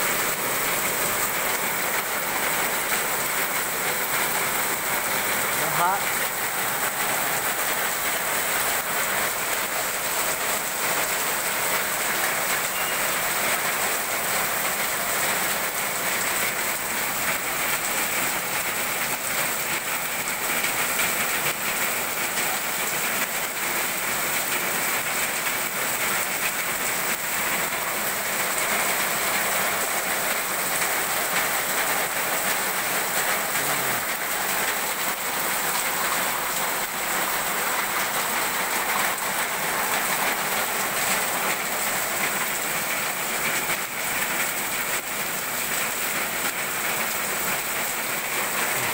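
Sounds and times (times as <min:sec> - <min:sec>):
heavy rain on pavement: 0:00.0 - 0:48.9.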